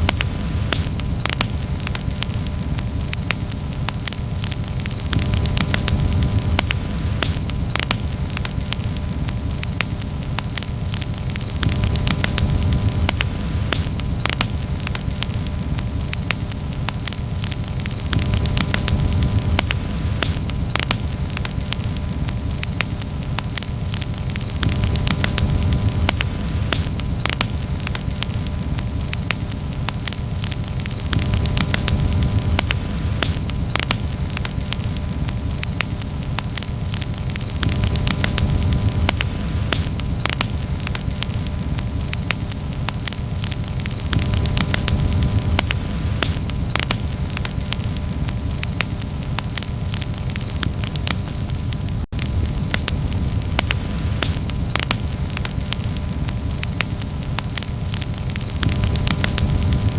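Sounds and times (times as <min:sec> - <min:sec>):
campfire crackling: 0:00.0 - 0:59.9
low rumble of flames: 0:00.0 - 0:59.9.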